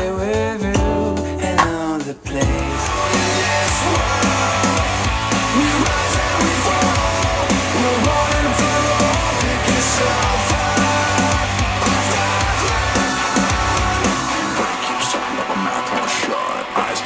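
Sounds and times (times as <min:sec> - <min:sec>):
instrumental music over speaker: 0:00.0 - 0:17.0.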